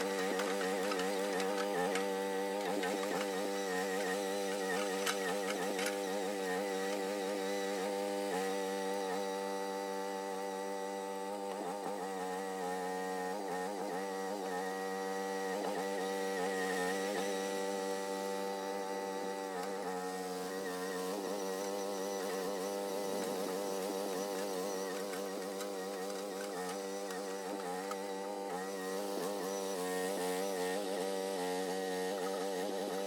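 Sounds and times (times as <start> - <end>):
mini excavator engine running: 0.0 - 33.0.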